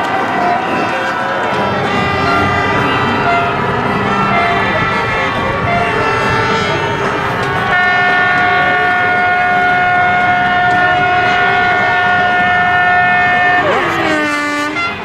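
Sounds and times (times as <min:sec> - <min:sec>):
boat horns sounding together: 0:00.0 - 0:15.0.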